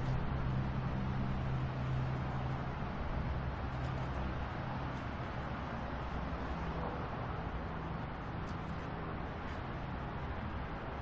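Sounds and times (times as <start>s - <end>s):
vehicles passing on highway: 0.0s - 11.0s.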